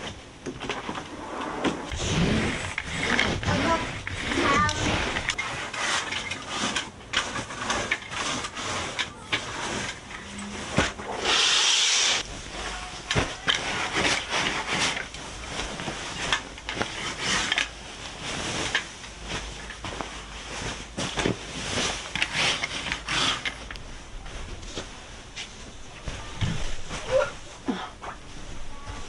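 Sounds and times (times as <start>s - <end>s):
fabric rustling: 0.0s - 11.4s, 12.1s - 29.0s.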